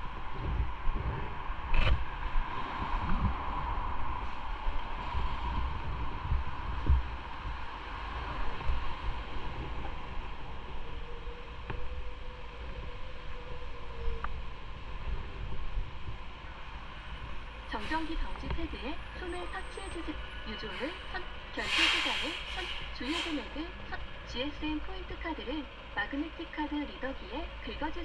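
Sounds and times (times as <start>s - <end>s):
wind noise on microphone: 0.0s - 24.8s.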